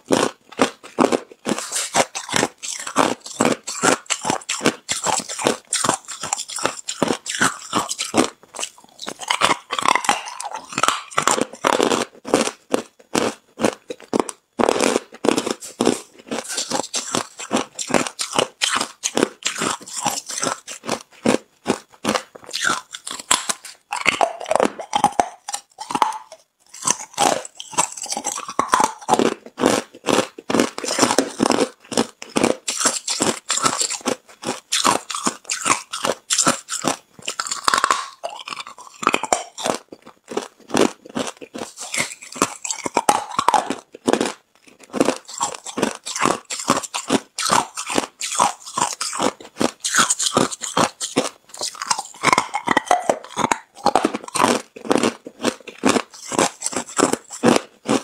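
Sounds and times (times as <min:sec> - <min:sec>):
person chewing ice crunching: 0:00.0 - 0:58.0.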